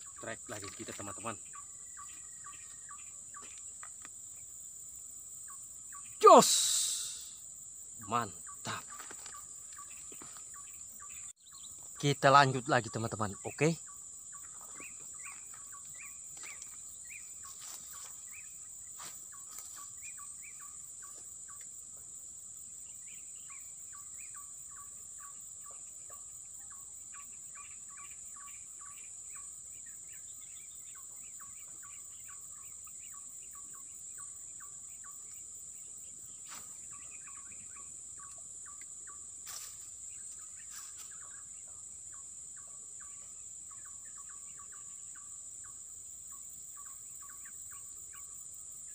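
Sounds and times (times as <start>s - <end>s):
bird chirps: 0.0s - 22.1s, 22.7s - 48.9s
insects droning: 0.0s - 48.9s.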